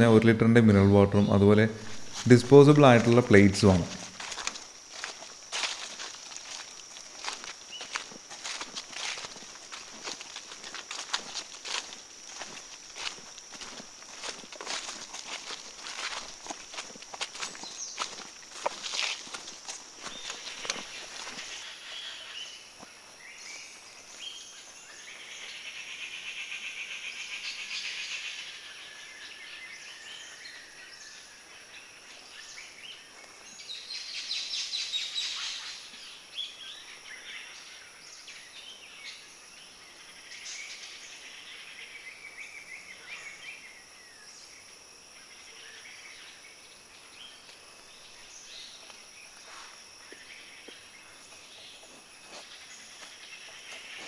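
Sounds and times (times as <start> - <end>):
birds chirping: 0.0 - 39.3, 45.6 - 54.0.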